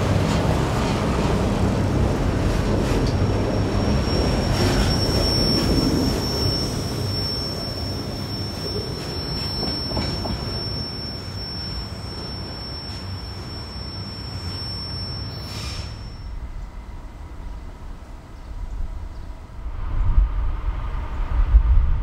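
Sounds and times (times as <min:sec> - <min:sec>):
approaching train: 0:00.0 - 0:22.0
train wheels rumbling on rails: 0:00.0 - 0:22.0
high-pitched whine: 0:03.0 - 0:22.0.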